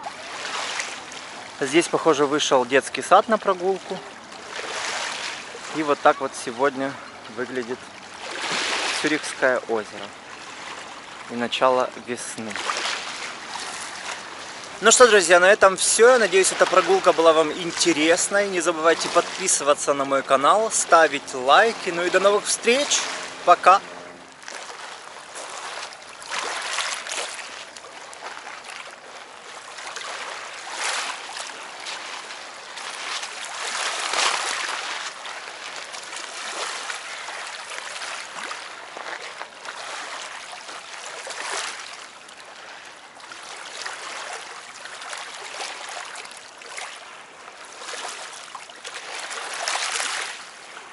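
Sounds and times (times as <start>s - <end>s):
lake waves lapping on rocks: 0.0s - 50.9s.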